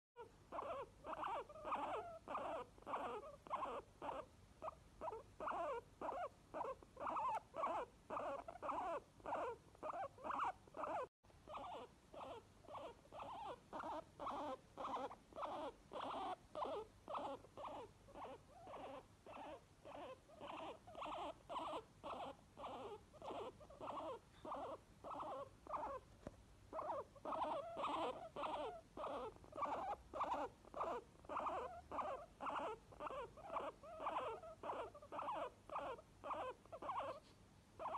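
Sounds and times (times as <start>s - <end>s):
guinea pigs wheeking: 0.2s - 26.1s, 26.7s - 37.9s.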